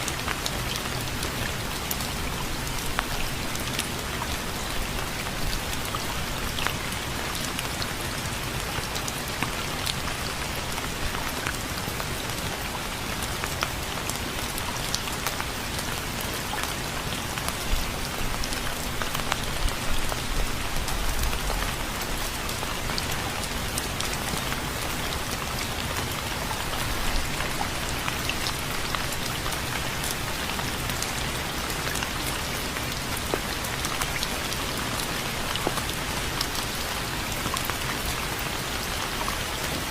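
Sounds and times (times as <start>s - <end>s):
raindrops ticking close by: 0.0s - 39.9s.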